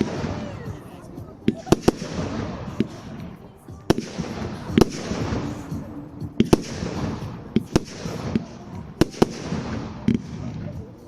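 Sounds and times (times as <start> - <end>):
crackling hiss of firework shells: 0.0 - 11.0
firework bangs: 0.0 - 11.0.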